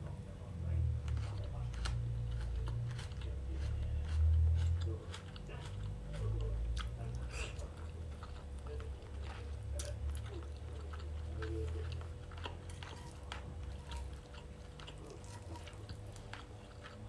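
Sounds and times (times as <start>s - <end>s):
low steady hum: 0.0s - 17.0s
close chewing: 1.0s - 17.0s.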